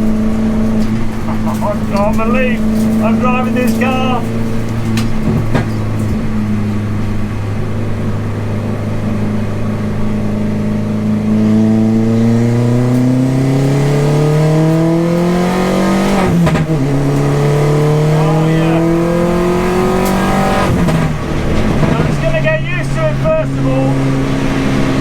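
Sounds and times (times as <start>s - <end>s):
race car engine from inside: 0.0s - 25.0s.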